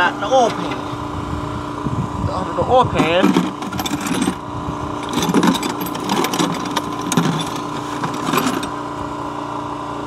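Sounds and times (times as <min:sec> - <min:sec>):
steady engine hum: 0:00.0 - 0:10.0.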